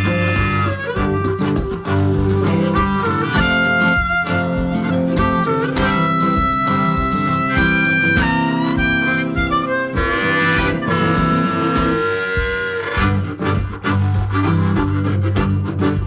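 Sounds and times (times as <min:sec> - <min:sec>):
guitar: 0:00.0 - 0:16.0
harmonica bending notes: 0:00.0 - 0:16.0
steady beat: 0:00.0 - 0:16.0.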